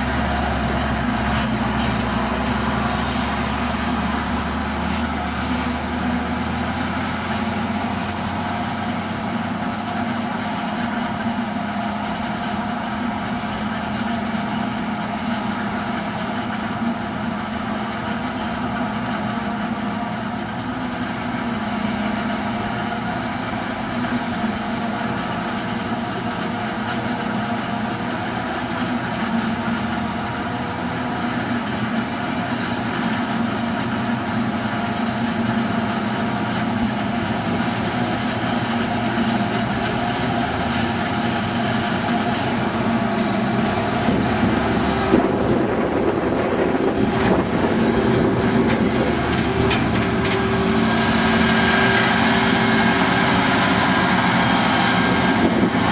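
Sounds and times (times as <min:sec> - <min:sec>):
tractor and harvester engine din: 0:00.0 - 0:55.9.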